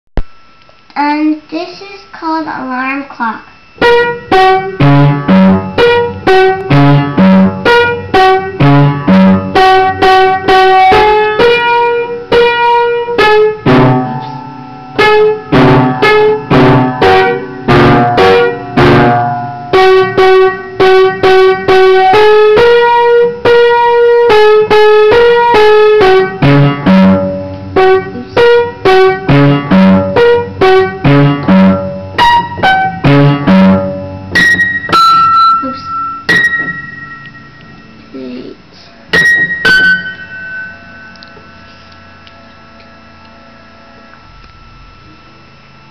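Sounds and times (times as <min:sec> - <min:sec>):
upright piano playing: 0:03.8 - 0:45.9.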